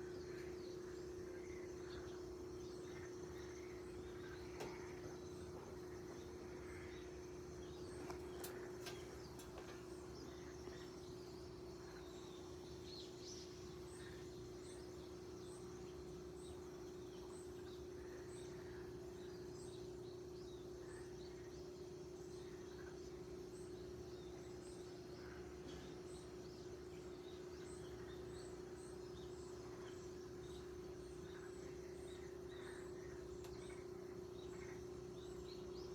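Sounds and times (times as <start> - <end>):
small birds chirping: 0.0 - 35.9
steady low hum: 0.0 - 35.9.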